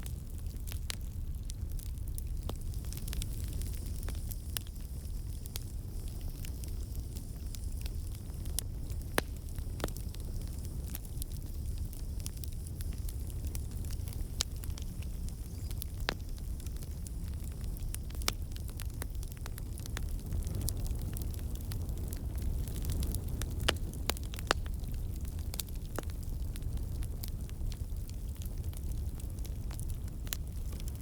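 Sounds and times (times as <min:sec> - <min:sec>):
campfire crackling: 0:00.0 - 0:31.0
sharp pops from fire: 0:00.0 - 0:31.0.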